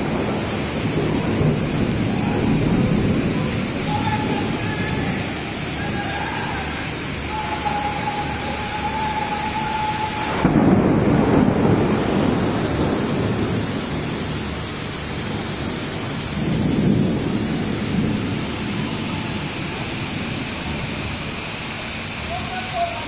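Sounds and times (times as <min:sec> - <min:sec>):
thunder rumbling: 0:00.0 - 0:21.4
heavy rain hissing: 0:00.0 - 0:23.0.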